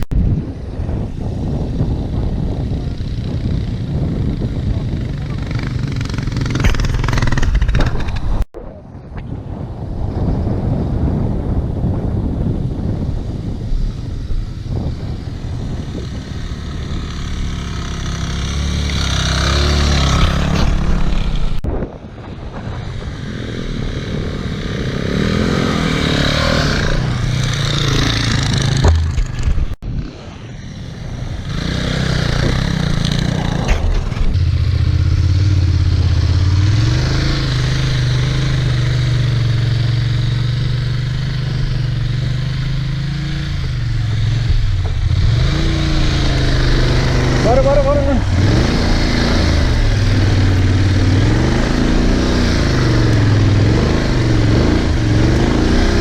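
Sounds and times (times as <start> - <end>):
motorcycle engine under throttle: 1.3 - 8.5, 11.0 - 21.6, 22.6 - 56.0.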